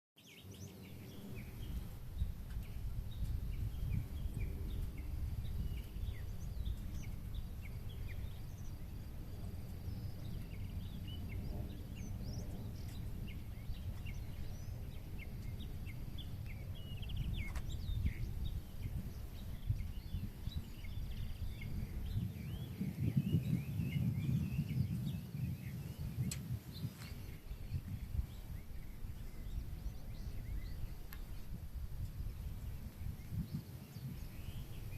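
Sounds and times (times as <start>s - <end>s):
small birds chirping: 0.2s - 34.9s
wind rumble on microphone: 0.3s - 34.9s.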